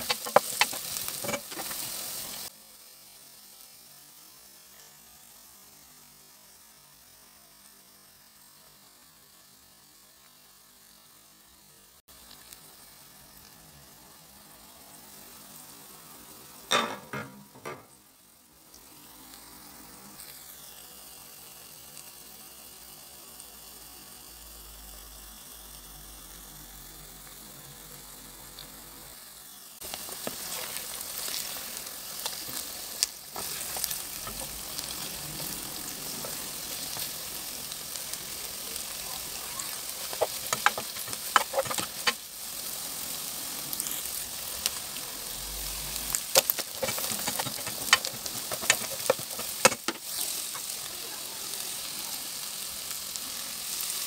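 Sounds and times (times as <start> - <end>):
eggs sizzling in a wok: 0.0 - 54.0.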